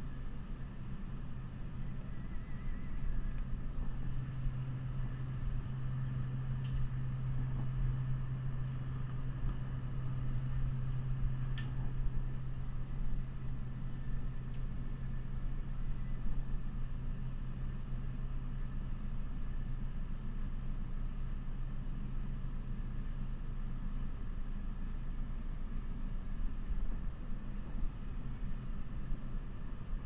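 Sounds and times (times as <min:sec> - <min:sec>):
refrigeration fans humming: 0:00.0 - 0:30.0.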